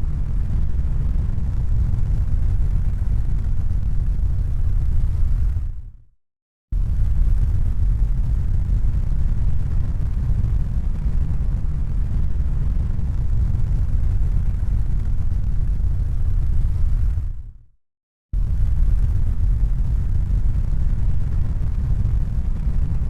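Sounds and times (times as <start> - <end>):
low rumbling noise: 0.0 - 6.0, 6.8 - 17.6, 18.4 - 23.0.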